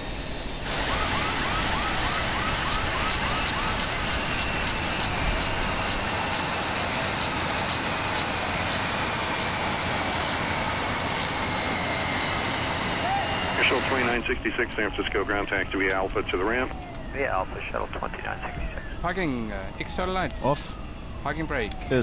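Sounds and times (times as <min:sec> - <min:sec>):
jet airliner engines running: 0:00.0 - 0:22.0.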